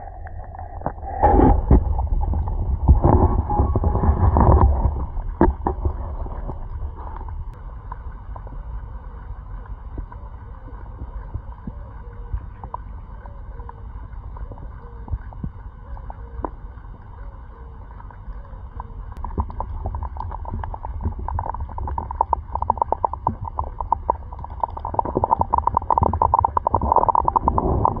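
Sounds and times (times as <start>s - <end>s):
low rumbling wind: 0.0s - 28.0s.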